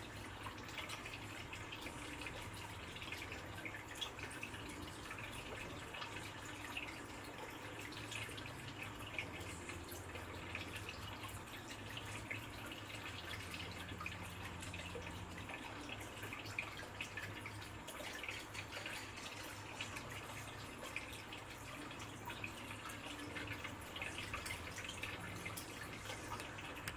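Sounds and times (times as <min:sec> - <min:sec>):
water trickling and dripping: 0:00.0 - 0:26.9.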